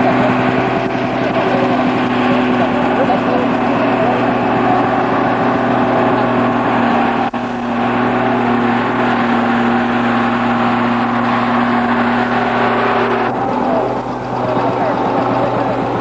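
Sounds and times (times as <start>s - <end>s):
motorcycle engines idling: 0.0s - 16.0s.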